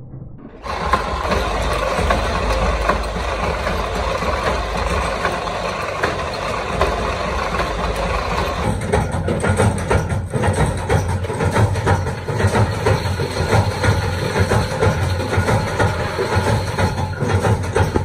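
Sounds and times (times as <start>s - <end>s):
forming machine clattering: 0.6s - 18.0s.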